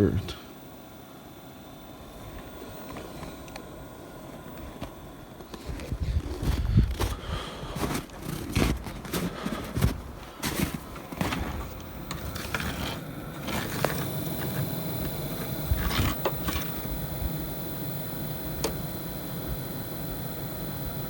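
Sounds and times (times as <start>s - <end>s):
heater fan running: 0.0s - 21.0s.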